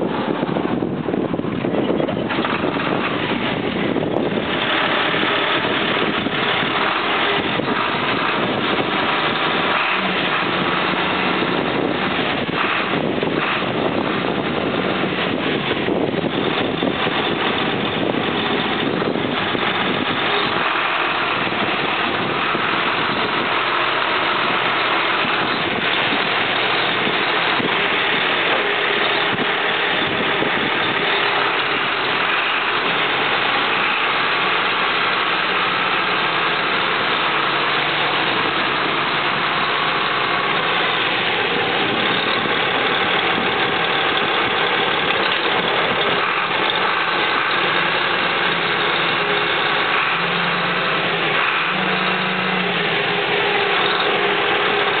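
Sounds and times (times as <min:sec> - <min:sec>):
diesel tractor engine idling: 0:00.0 - 0:55.0
tractor driving over gravel: 0:00.0 - 0:55.0.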